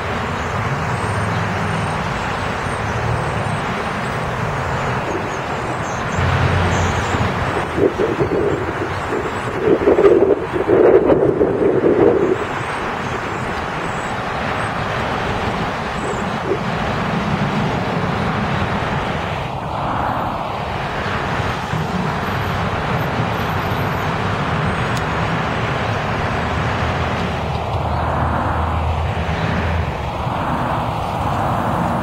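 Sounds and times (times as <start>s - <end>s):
bus diesel engine drone: 0.0s - 32.0s
cars whooshing past: 0.0s - 32.0s
highway traffic roar: 0.0s - 32.0s.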